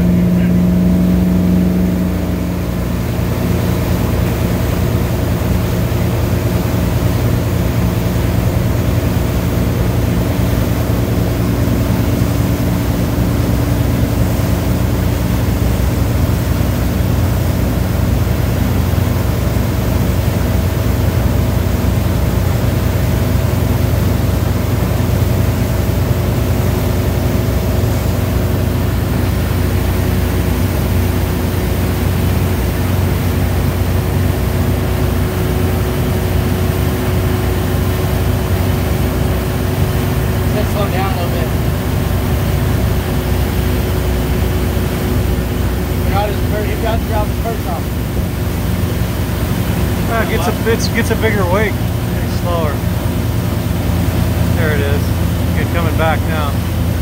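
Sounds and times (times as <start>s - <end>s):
churning wake water: 0.0s - 57.0s
motorboat engine drone: 0.0s - 57.0s.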